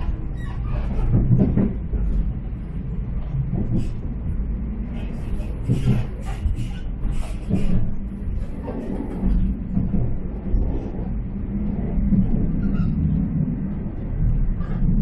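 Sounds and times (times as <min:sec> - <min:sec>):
rattles and clicks: 0:00.0 - 0:13.5
railcar engine rumble: 0:00.0 - 0:15.0.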